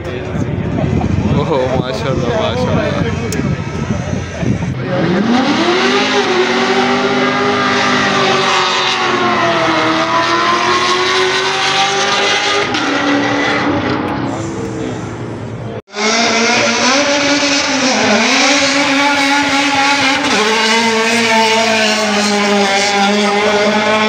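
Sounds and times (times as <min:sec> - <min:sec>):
race car engine accelerating: 0:02.9 - 0:24.0.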